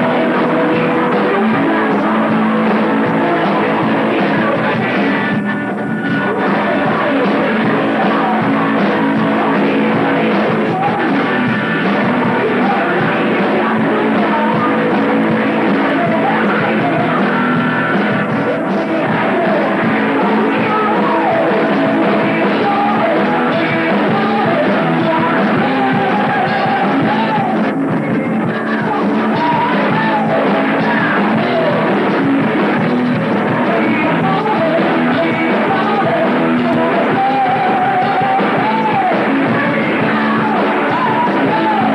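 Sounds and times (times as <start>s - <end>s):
heavy metal band playing: 0.0s - 41.9s
person singing and yelling: 0.0s - 41.9s.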